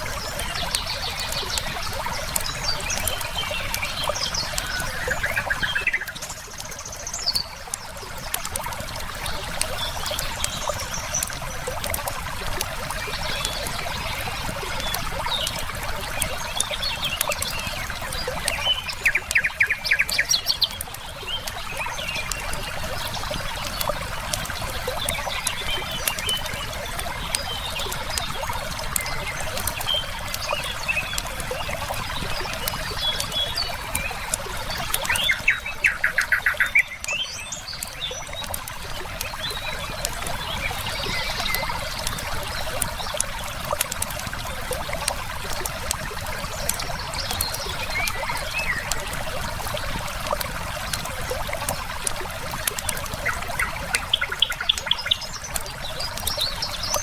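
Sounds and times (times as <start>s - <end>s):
river flowing: 0.0s - 57.0s
small birds chirping: 0.0s - 57.0s
wood fire crackling: 0.0s - 57.0s.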